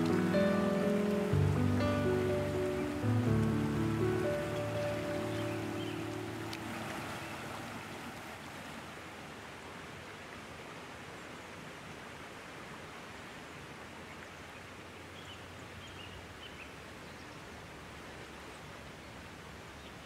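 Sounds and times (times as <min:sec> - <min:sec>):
stream rushing: 0:00.0 - 0:19.8.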